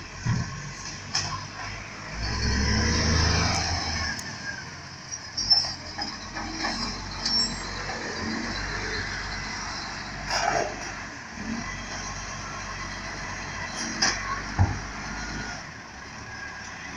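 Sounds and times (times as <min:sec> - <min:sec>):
garbage truck diesel engine: 0:00.0 - 0:16.9.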